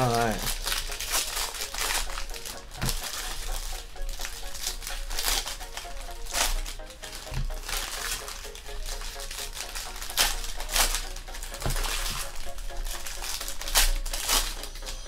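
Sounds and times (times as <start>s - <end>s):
foil wrappers crinkling: 0.0s - 15.0s.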